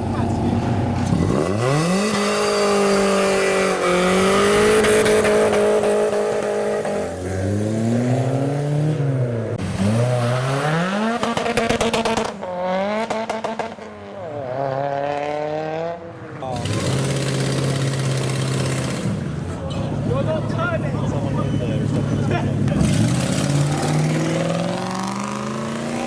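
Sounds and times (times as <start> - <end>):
car engine revving hard: 0.0 - 13.8, 14.4 - 19.5, 21.8 - 26.0.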